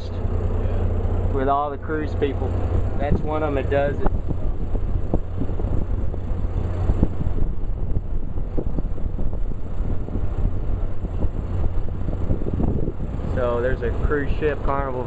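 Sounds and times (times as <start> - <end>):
ferry engine idling: 0.0 - 15.0.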